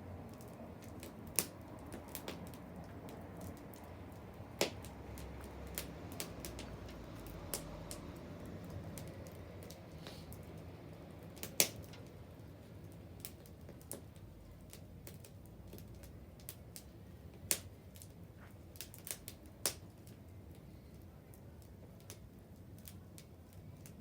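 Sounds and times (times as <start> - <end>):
bonfire crackling: 0.0 - 24.0.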